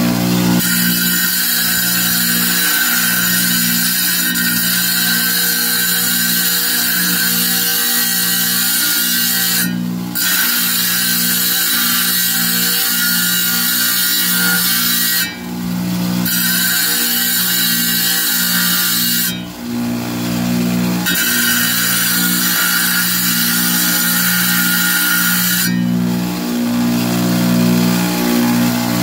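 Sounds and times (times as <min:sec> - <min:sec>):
saw blade grinding stone: 0:00.0 - 0:29.0
tile saw motor hum: 0:00.0 - 0:29.0.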